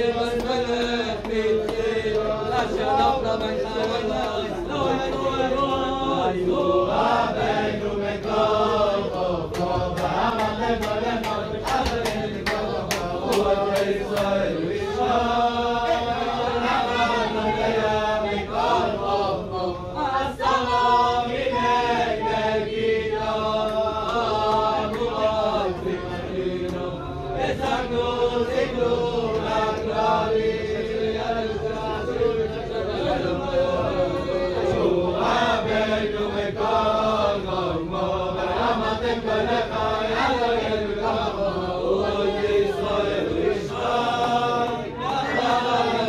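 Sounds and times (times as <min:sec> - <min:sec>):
men singing together: 0:00.0 - 0:46.0.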